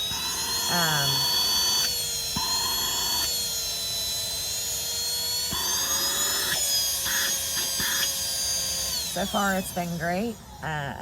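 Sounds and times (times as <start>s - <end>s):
handheld vacuum cleaner running: 0.0s - 11.0s.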